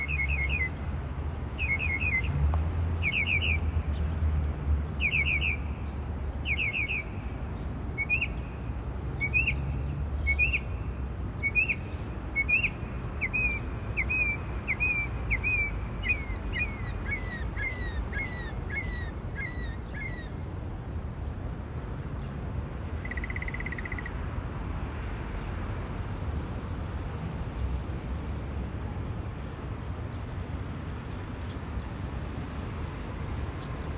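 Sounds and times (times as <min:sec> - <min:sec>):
songbird singing: 0:00.0 - 0:21.4, 0:22.2 - 0:24.4, 0:26.5 - 0:33.9.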